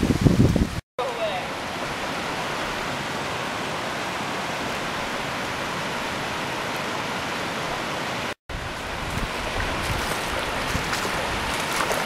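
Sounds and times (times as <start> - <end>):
creek rushing over rock ledges: 1.0 - 12.0.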